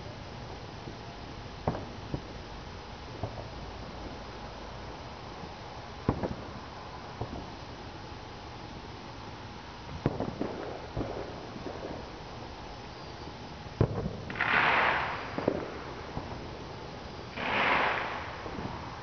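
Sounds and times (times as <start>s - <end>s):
distant fireworks popping and banging: 0.1s - 8.0s, 9.2s - 19.0s.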